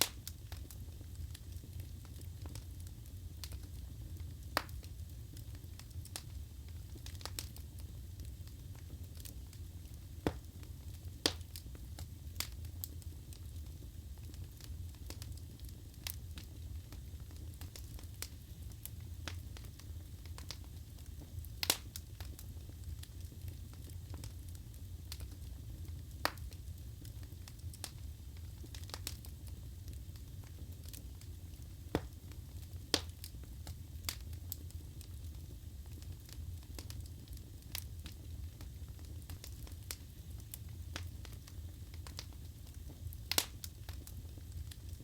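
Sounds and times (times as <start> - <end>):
burning logs crackling and popping: 0.0 - 45.0
fire low rumble: 0.0 - 45.0.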